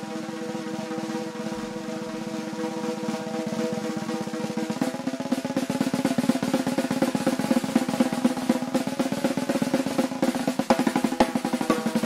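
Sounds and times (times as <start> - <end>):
drum rolls on snare and toms: 0.0 - 12.0.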